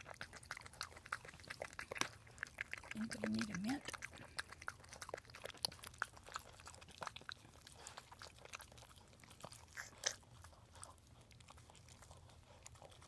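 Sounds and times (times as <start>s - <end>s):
dog licking puppy wet smacks: 0.0s - 13.0s.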